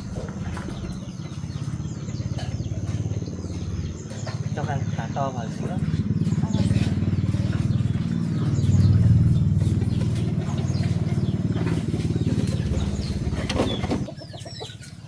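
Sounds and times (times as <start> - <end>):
small engine running: 0.0 - 14.1.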